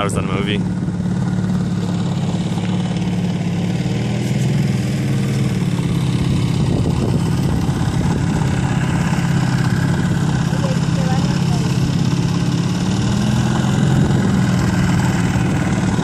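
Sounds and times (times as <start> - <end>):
outboard motor droning: 0.0 - 16.0.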